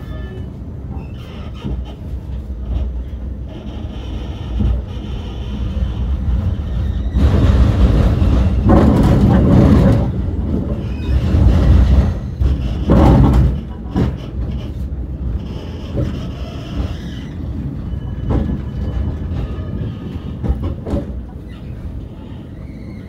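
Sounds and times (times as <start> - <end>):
loud rushing rail noise: 0.0 - 23.0
tram rumbling on rails: 0.0 - 23.0.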